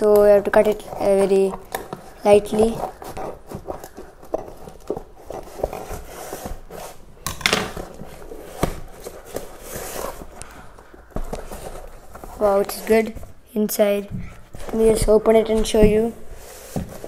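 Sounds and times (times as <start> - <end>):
cardboard scraping and rustling: 0.0 - 17.0.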